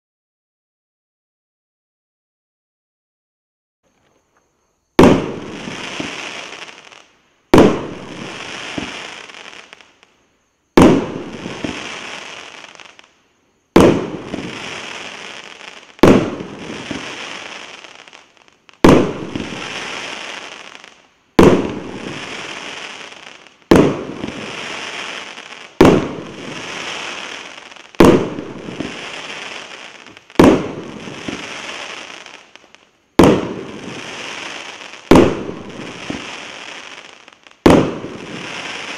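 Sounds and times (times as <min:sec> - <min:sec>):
fireworks bangs with hiss: 0:04.9 - 0:38.9.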